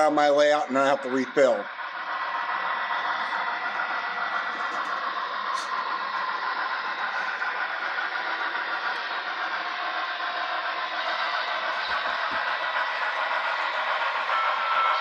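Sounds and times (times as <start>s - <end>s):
model locomotive hissing: 0.0s - 15.0s
thin high whine: 0.0s - 15.0s.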